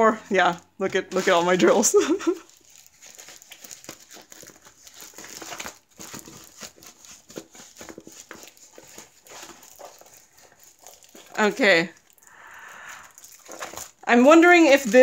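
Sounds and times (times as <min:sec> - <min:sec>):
plastic film crinkling: 0:00.0 - 0:15.0.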